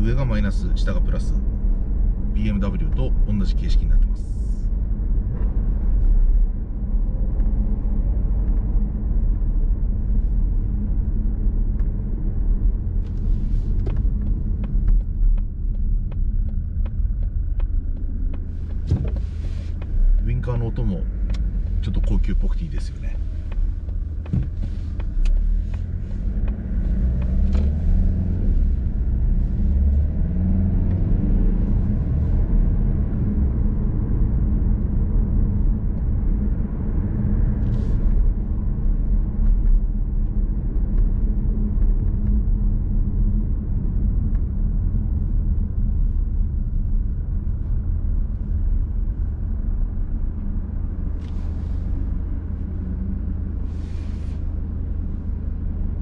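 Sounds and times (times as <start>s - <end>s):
diesel car engine rumble: 0.0s - 56.0s
road noise in car cabin: 0.0s - 56.0s.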